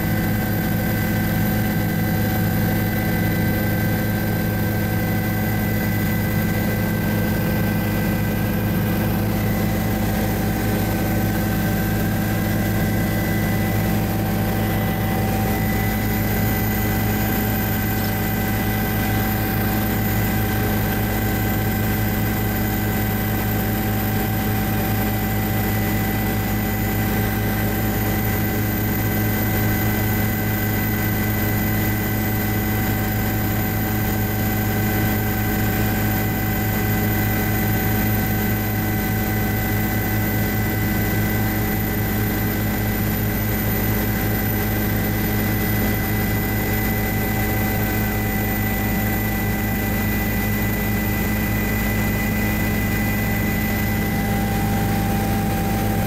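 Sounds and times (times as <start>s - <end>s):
helicopter rotor and engine drone: 0.0s - 56.0s.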